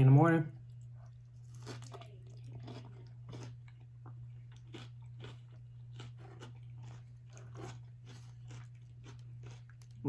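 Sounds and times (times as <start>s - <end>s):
steady low hum: 0.0s - 10.0s
chewing and biting food: 0.6s - 10.0s.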